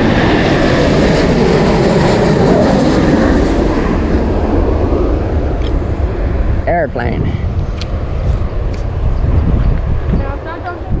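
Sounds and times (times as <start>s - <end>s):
airplane roar overhead: 0.0s - 11.0s.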